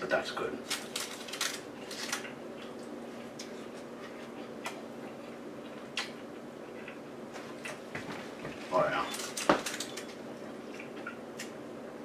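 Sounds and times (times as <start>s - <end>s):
steady low hum: 0.0s - 12.0s
person chewing food: 1.2s - 8.6s, 9.4s - 11.6s.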